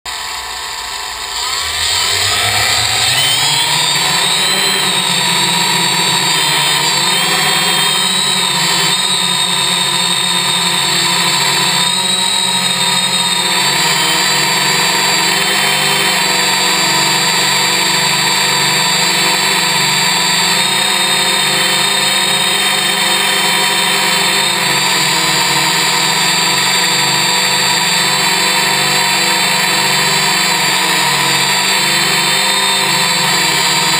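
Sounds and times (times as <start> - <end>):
multicopter motors whining: 0.1 - 33.9.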